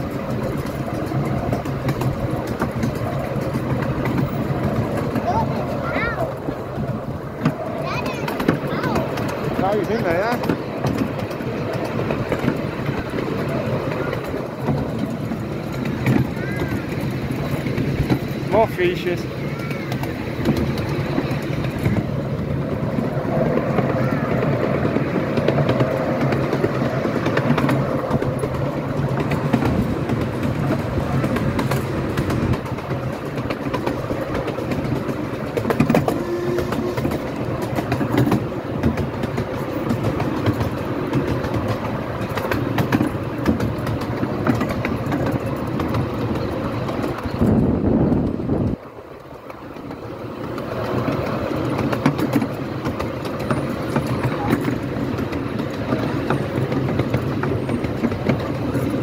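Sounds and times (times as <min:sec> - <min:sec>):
sharp clicks and rattles: 0:00.0 - 0:59.0
train wheels rumbling on track: 0:00.0 - 0:59.0.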